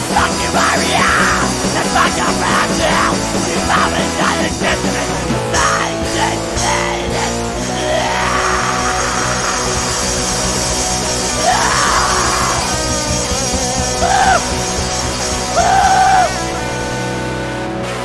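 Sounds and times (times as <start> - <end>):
punk rock band playing: 0.0 - 18.0.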